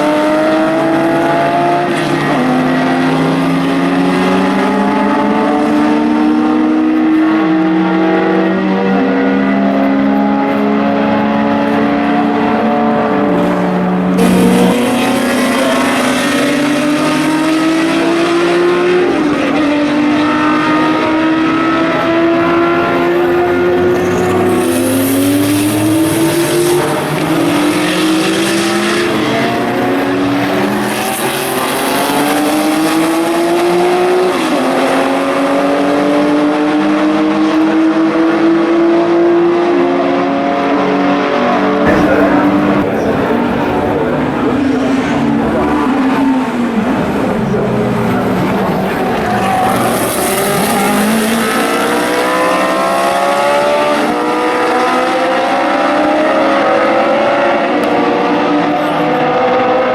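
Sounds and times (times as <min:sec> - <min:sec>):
racing car engines accelerating: 0:00.0 - 0:59.9.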